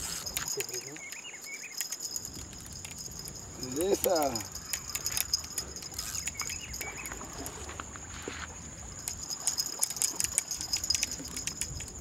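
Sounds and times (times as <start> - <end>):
high-pitched insect drone: 0.0 - 7.8, 8.8 - 12.0
wind rumble on microphone: 2.2 - 12.0.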